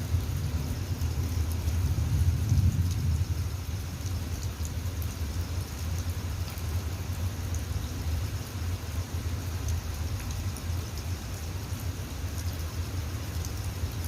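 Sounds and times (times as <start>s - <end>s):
rain falling: 0.0s - 14.0s
raindrops ticking: 0.0s - 14.0s.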